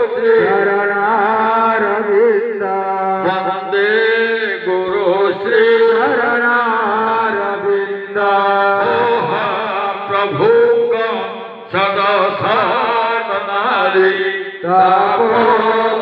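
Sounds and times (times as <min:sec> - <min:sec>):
devotional chanting: 0:00.0 - 0:16.0.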